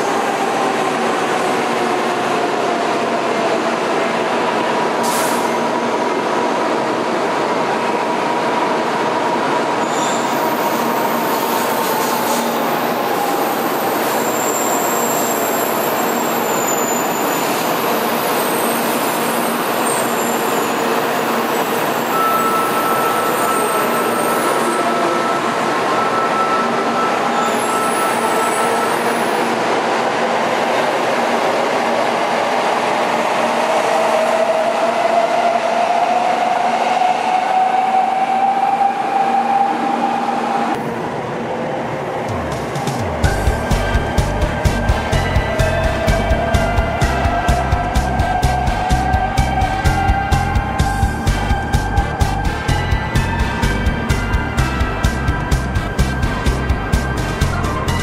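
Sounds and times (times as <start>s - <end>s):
train wheel and rail noise: 0.0s - 58.0s.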